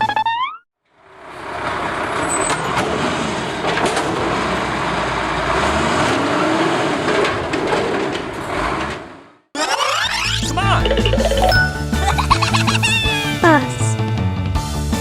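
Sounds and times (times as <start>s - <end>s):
garbage truck running: 1.0s - 13.6s.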